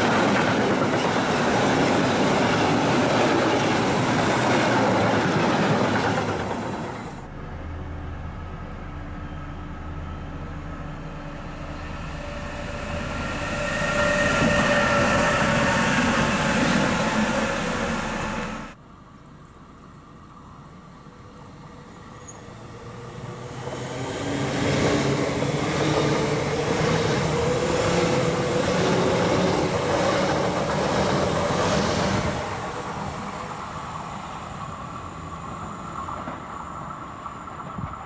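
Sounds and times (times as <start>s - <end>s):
electric locomotives passing: 0.0s - 38.0s
electric train passing with hum: 0.0s - 38.0s.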